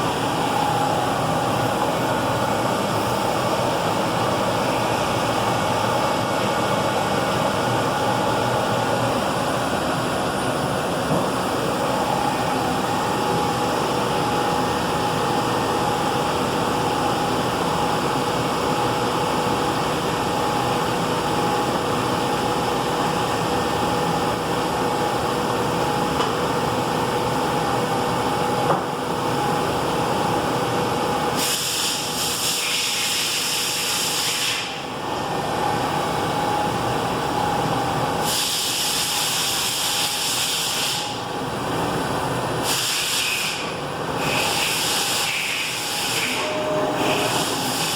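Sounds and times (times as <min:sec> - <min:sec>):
lathe humming and whining: 0:00.0 - 0:47.9.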